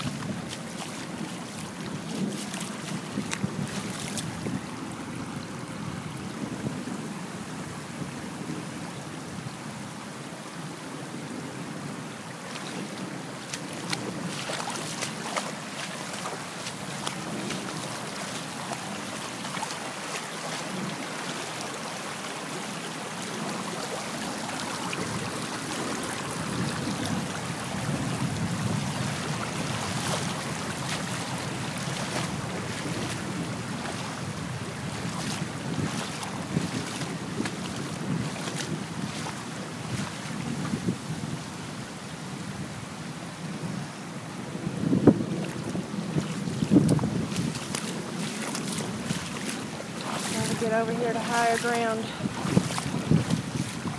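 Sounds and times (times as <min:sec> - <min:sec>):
small water splashes: 0:00.0 - 0:07.0, 0:12.2 - 0:40.9, 0:45.3 - 0:53.9
heavy rain: 0:00.0 - 0:53.9
rushing floodwater: 0:00.0 - 0:53.9.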